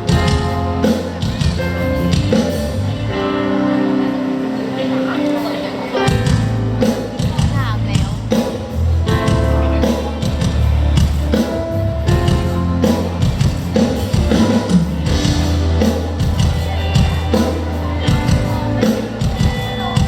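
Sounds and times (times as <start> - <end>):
regular drum beat: 0.0 - 3.2, 6.0 - 20.0
heavy bass notes: 0.0 - 4.8, 6.0 - 20.0
loud band music over pa: 0.0 - 20.0.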